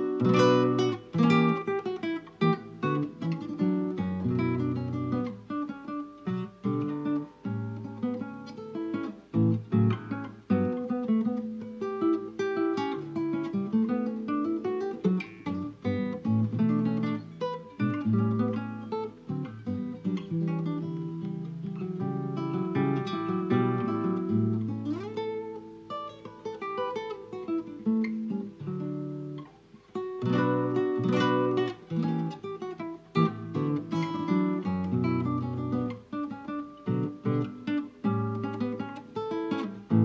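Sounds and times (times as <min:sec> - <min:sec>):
acoustic guitar music: 0:00.0 - 0:40.0.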